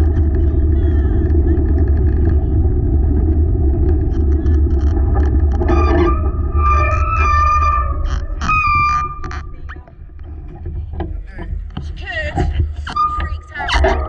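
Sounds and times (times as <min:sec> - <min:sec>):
high wavering whine: 0:00.0 - 0:11.6
wheeled rig rumbling: 0:00.0 - 0:14.0.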